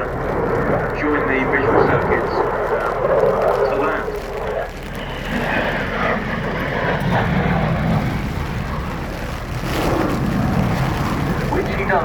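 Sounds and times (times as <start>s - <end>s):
fighter jet passing: 0.0s - 12.0s.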